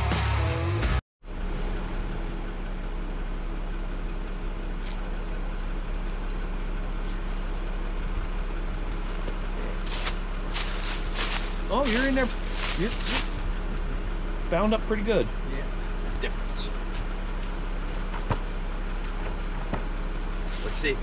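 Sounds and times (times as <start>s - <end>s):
car engine idling: 0.6s - 21.0s.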